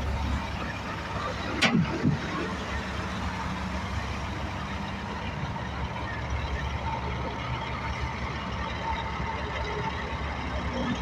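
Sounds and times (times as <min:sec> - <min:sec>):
trucks passing on road: 0:00.0 - 0:11.0.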